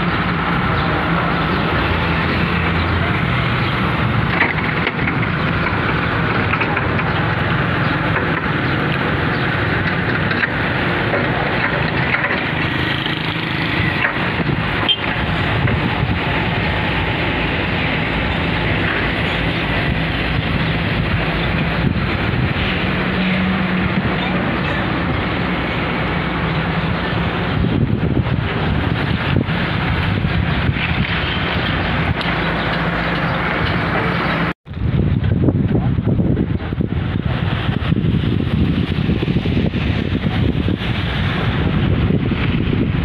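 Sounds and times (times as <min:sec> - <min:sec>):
low engine hum: 0:00.0 - 0:43.0
traffic on wet road: 0:00.0 - 0:43.0.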